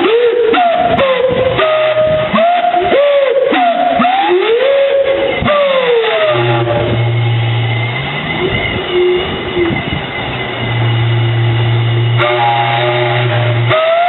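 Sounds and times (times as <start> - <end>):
steam hissing: 0.0 - 14.0
steam whistle hooting: 0.0 - 14.0.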